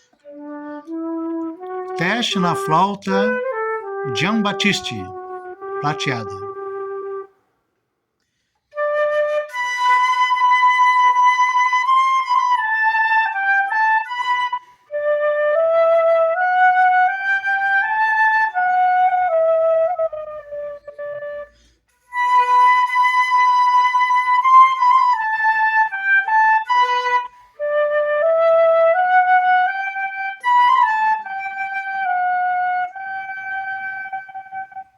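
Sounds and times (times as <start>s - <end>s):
solo flute melody: 0.0s - 7.4s, 8.7s - 34.9s.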